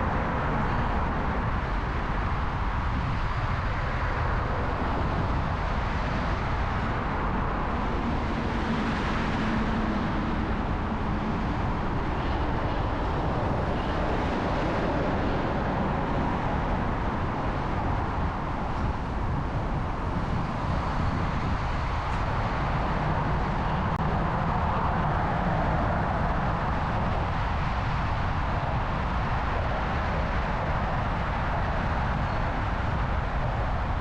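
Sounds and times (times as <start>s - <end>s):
low engine hum: 0.0s - 34.0s
road and wind noise: 0.0s - 34.0s.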